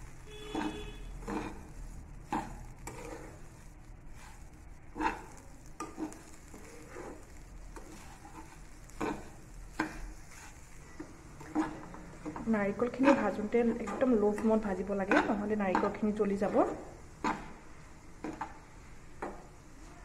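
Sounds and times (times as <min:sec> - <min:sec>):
metal spatula scraping a pan: 0:00.1 - 0:18.6.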